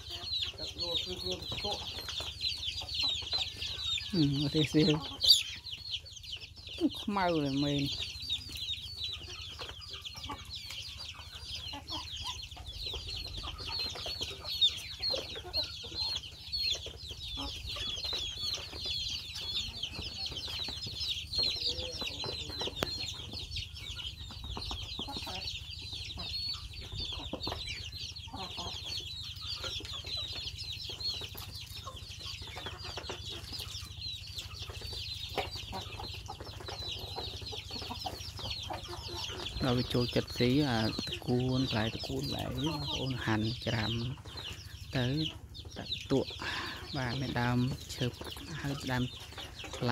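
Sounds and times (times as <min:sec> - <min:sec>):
ducklings and chicks peeping: 0:00.0 - 0:49.9.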